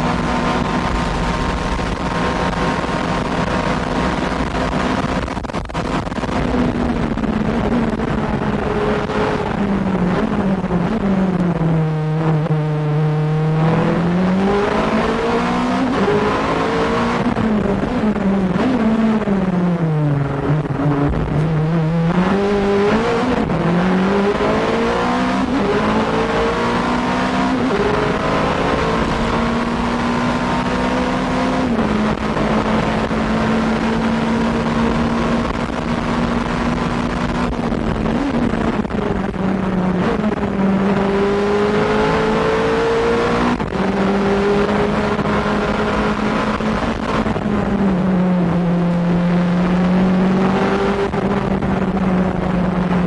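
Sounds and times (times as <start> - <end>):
racing engine at full throttle: 0.0 - 53.0.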